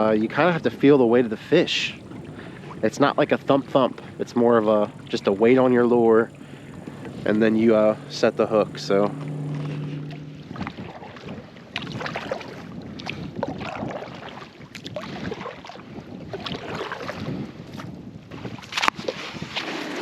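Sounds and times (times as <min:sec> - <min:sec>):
water wash: 0:00.0 - 0:17.4, 0:18.6 - 0:20.0
wind on microphone: 0:00.0 - 0:20.0
paddle strokes splashing: 0:01.2 - 0:20.0.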